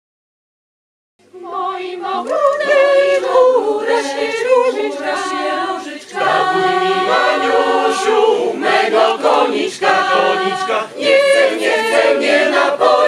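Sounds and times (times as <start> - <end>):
mixed choir singing a cappella: 1.3 - 13.0.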